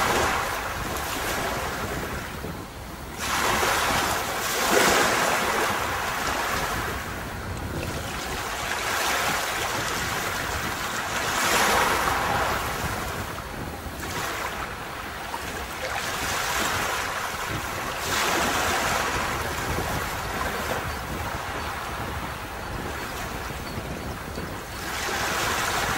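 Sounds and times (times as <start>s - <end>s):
sea waves breaking on beach: 0.0s - 25.9s
wind rumbling on microphone: 0.0s - 25.9s.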